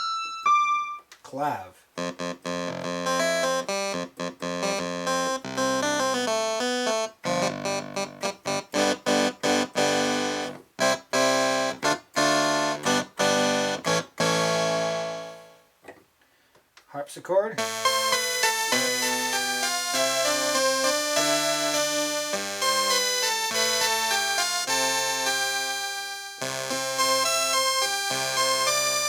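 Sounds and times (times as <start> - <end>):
synthesizer clavinet notes and chords: 2.0 - 15.6, 17.6 - 25.7, 26.4 - 29.0.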